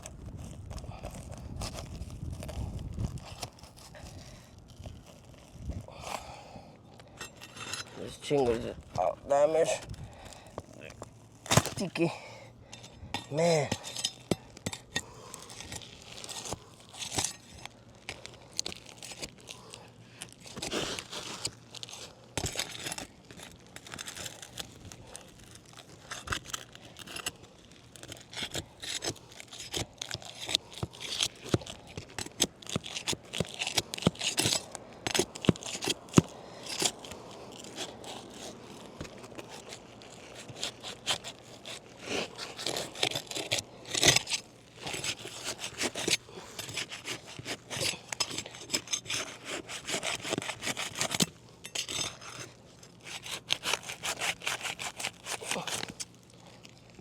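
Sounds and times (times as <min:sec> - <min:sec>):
shingles scraping and tearing: 0:00.0 - 0:06.4, 0:07.0 - 0:57.0.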